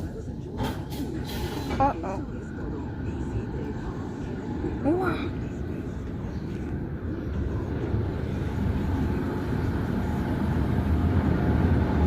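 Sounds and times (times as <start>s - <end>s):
car wash machinery rumbling: 0.0s - 12.0s.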